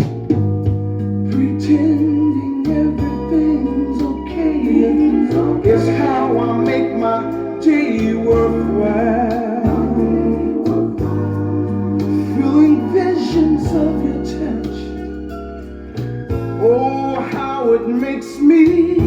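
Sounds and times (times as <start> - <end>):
held bass notes: 0.0 - 19.0
lead singer vocal melody: 1.2 - 19.0.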